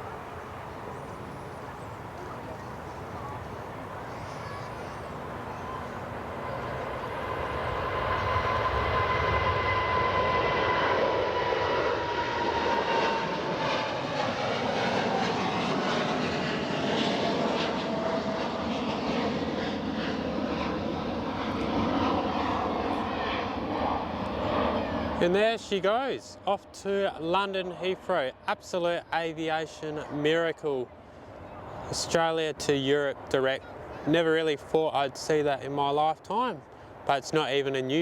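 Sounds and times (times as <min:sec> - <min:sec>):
high jet engine whine: 0:00.0 - 0:38.0
jet airliner taking off: 0:00.0 - 0:38.0.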